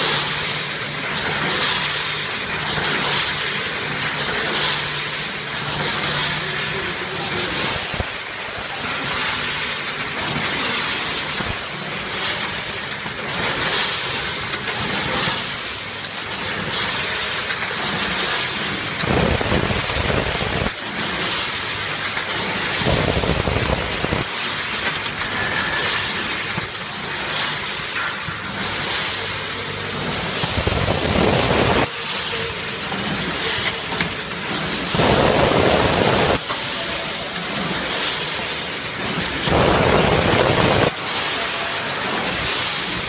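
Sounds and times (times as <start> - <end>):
production line machinery hissing: 0.0 - 43.0.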